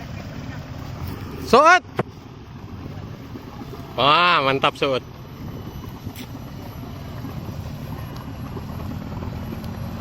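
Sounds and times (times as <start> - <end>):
engine rumbling under load: 0.0 - 10.0.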